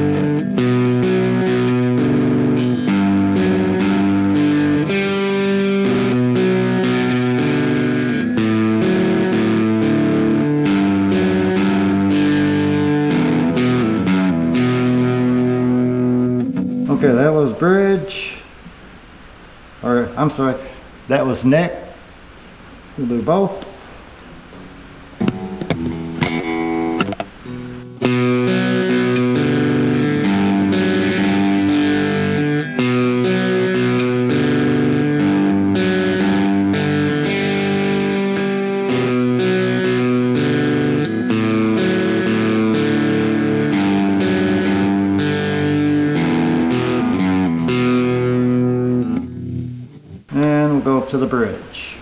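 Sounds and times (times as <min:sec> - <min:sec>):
overdriven electric guitar: 0:00.0 - 0:17.2, 0:22.6 - 0:50.6.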